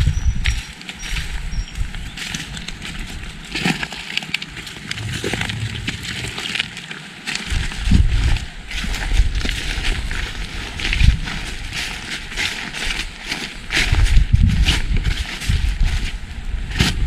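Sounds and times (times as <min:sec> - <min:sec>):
footsteps crunching on a path: 0:00.0 - 0:17.0.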